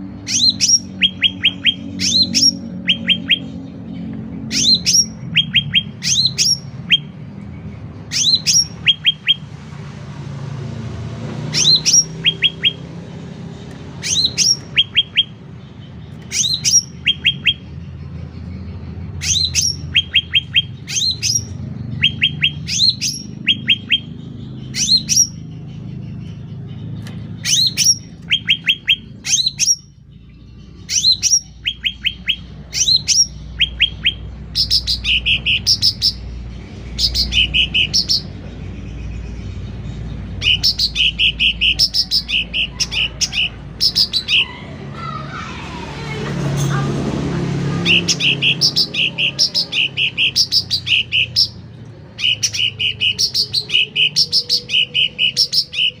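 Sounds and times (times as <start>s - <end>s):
songbird singing loudly: 0.0s - 9.8s, 10.5s - 46.1s, 47.7s - 56.0s.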